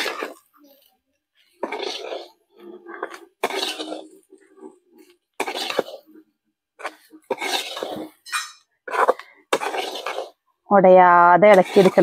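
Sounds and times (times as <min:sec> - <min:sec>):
metal spoon scraping a pan: 0:00.0 - 0:10.5, 0:11.4 - 0:12.0.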